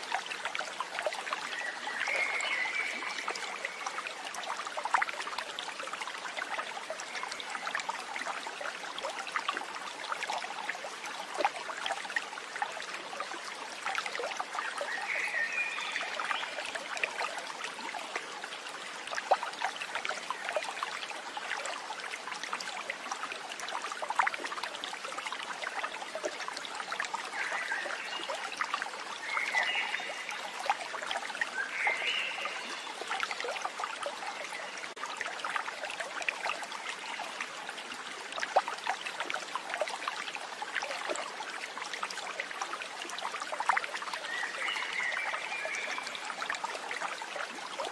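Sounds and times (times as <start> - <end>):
water trickling over stones: 0.0 - 47.9.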